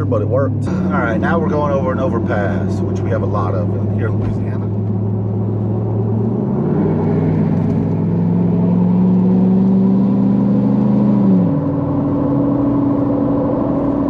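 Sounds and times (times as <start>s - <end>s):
diesel truck accelerating: 0.0s - 14.0s.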